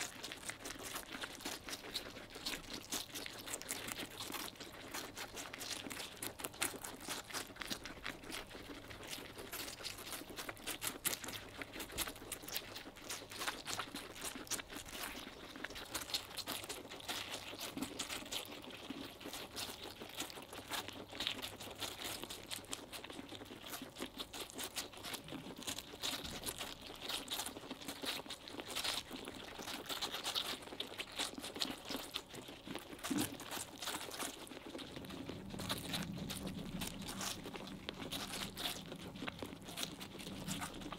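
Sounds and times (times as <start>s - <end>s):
guinea pigs chewing watermelon: 0.0s - 40.9s.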